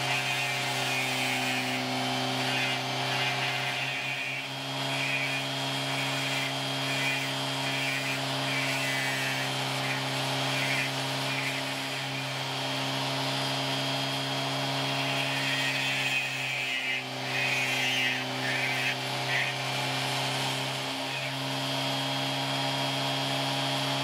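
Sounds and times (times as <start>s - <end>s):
burr grinding stone: 0.0s - 22.1s
rotary tool motor humming: 0.0s - 24.0s.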